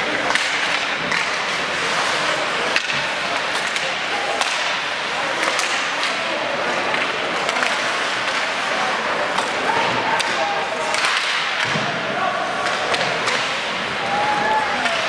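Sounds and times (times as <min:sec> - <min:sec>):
faint voices: 0:00.0 - 0:15.0
hockey sticks clacking on puck: 0:00.0 - 0:15.0.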